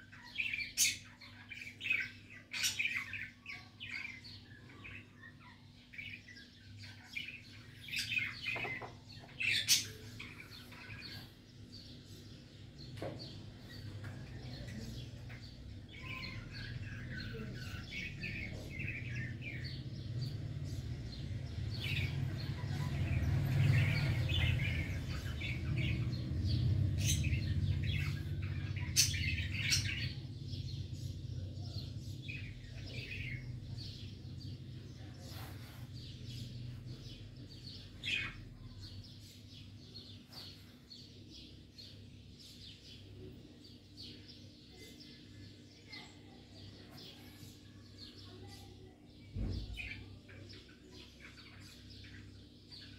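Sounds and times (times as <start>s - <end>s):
small birds chirping and twittering: 0.0s - 52.9s.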